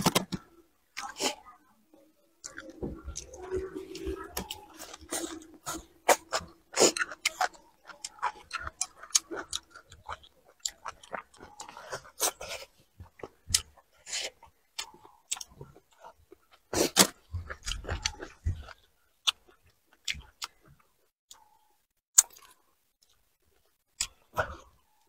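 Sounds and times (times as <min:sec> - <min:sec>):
wet chewing: 0:02.4 - 0:25.0.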